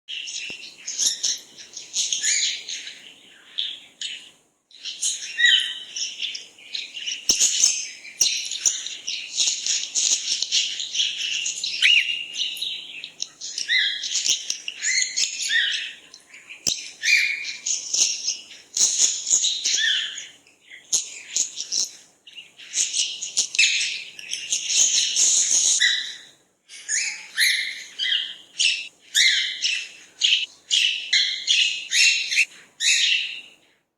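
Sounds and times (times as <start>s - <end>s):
songbirds chirping and singing: 0.1s - 33.7s.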